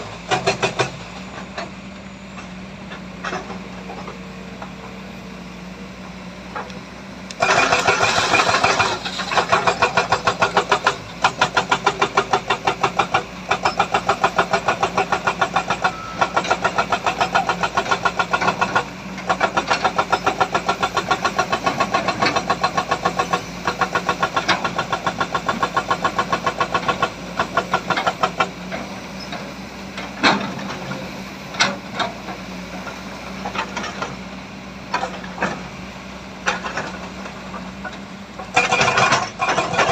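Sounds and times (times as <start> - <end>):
heavy diesel engine rattling: 0.0 - 39.9.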